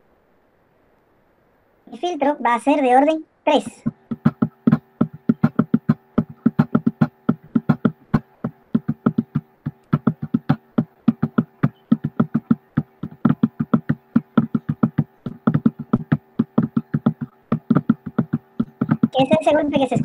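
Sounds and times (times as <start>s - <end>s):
faint steady hum: 0.0s - 20.0s
rapid uneven knocking: 3.9s - 20.0s.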